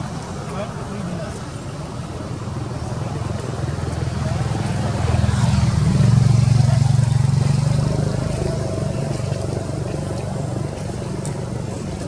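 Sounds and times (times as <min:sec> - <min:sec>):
motor engine humming: 0:02.1 - 0:12.0.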